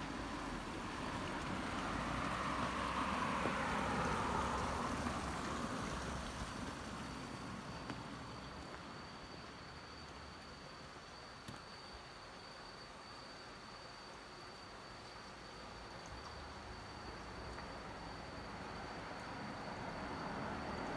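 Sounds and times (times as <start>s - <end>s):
faint outdoor hiss: 0.0s - 20.9s.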